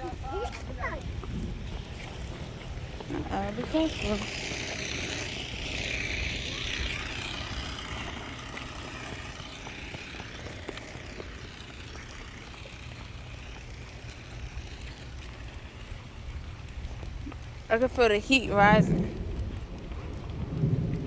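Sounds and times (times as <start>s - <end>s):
wind rumble on microphone: 0.0s - 21.0s
rain hissing: 0.8s - 16.4s, 17.4s - 21.0s.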